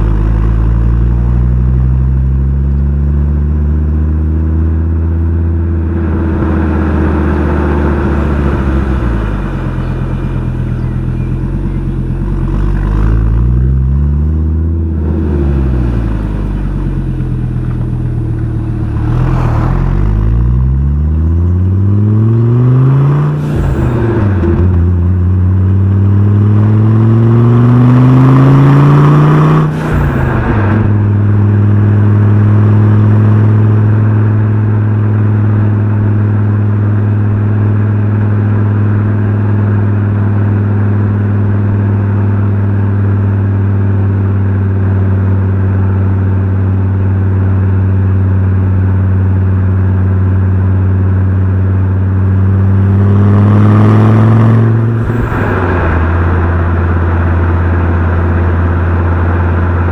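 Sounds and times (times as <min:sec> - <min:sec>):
car engine and exhaust revving: 0:00.0 - 0:59.9.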